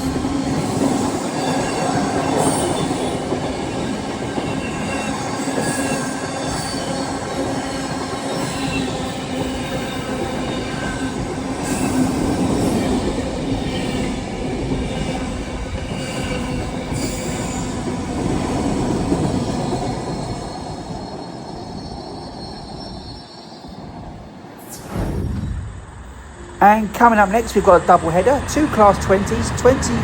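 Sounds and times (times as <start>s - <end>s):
train wagons rumbling: 0.0s - 23.3s, 23.9s - 30.0s
train wheel squeal: 0.0s - 30.0s.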